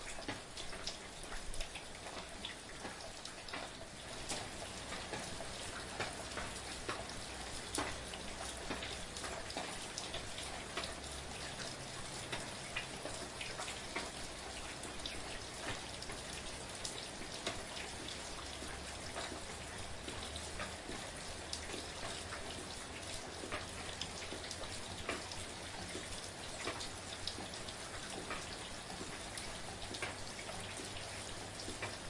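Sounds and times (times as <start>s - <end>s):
raindrops ticking on surface: 0.0s - 32.0s
steady rain hiss: 0.0s - 32.0s.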